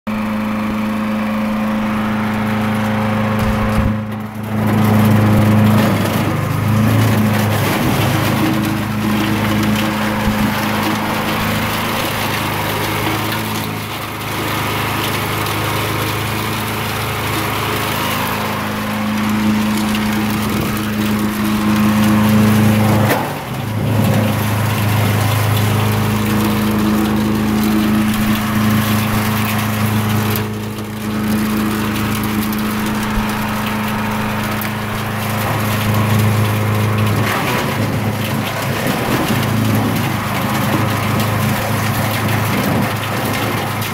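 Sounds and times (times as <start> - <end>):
wood chipper engine running: 0.0 - 43.9
wood crackling and splintering: 0.1 - 43.9.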